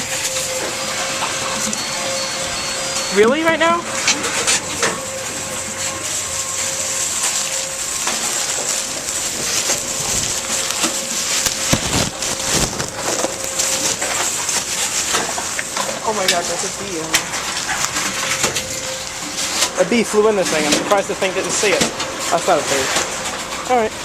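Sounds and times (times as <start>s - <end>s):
machine hum and hiss: 0.0s - 24.0s.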